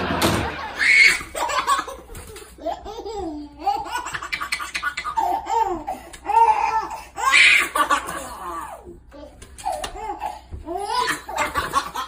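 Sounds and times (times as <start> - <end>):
baby laughing: 0.3 - 12.0.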